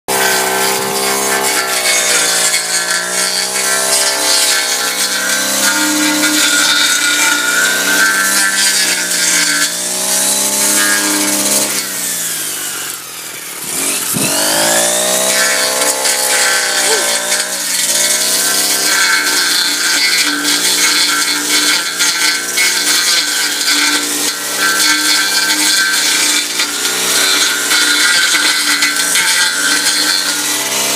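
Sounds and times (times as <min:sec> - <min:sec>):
brush cutter engine revving: 0:00.1 - 0:30.9.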